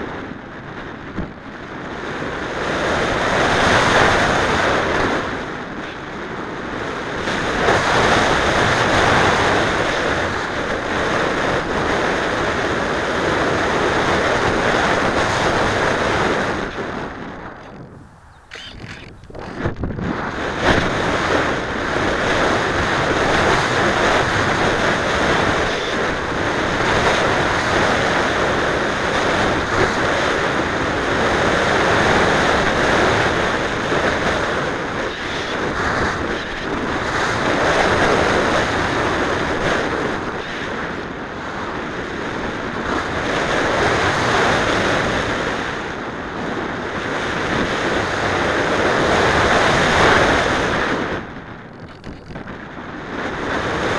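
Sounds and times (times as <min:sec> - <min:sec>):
wind noise on microphone: 0:00.0 - 0:53.9.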